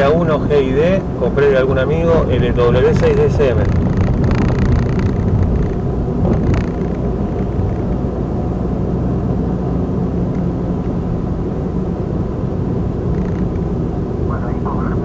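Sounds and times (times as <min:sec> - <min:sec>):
engine and tyre rumble in car: 0:00.0 - 0:15.0.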